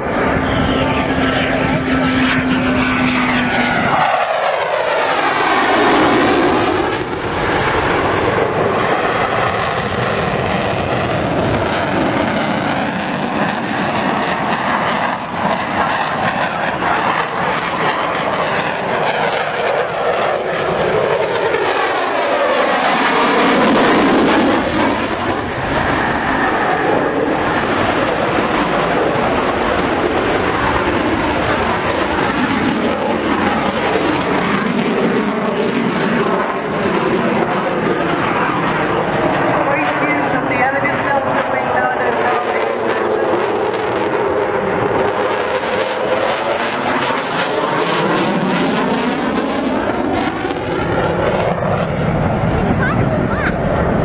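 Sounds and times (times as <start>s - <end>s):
jet aircraft flying past: 0.0s - 54.0s.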